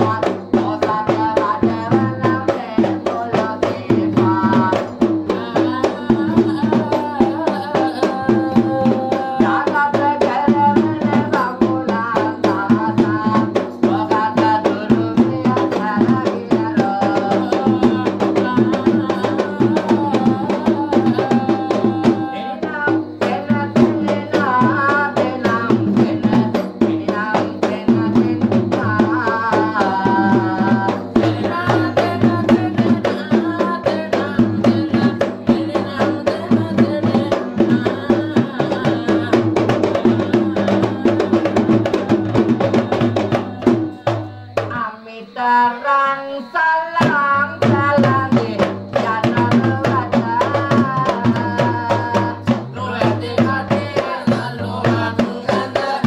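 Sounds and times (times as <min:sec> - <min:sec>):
man singing: 0:00.0 - 0:56.0.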